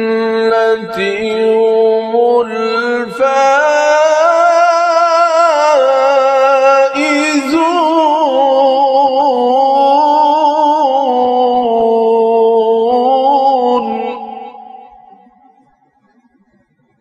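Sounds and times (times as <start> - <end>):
man chanting melodically: 0.0 - 15.6.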